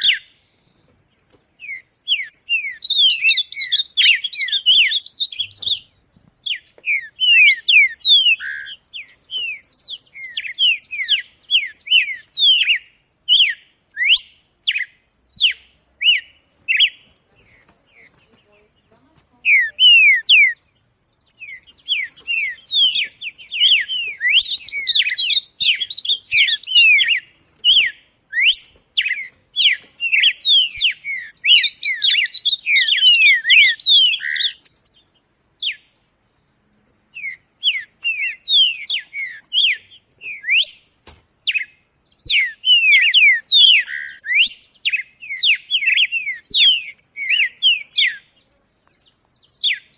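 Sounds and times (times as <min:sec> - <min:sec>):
songbird chattering song: 0:00.0 - 0:49.9.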